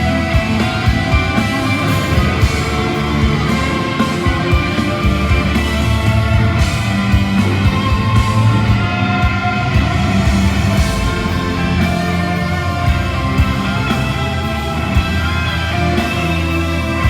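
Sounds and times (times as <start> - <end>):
electric guitars sustaining notes: 0.0 - 17.0
steady drum beat: 0.0 - 17.0.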